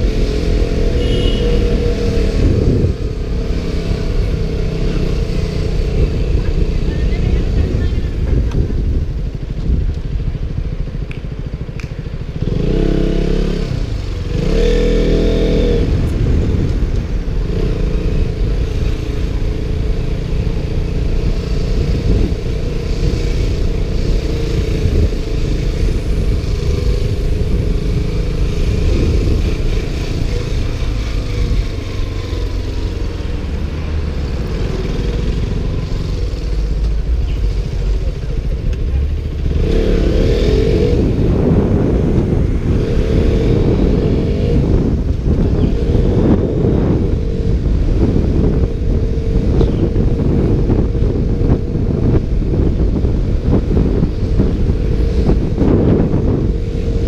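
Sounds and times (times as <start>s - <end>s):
motorcycle engine revving: 0.0s - 57.0s
wind buffeting microphone: 0.0s - 57.0s.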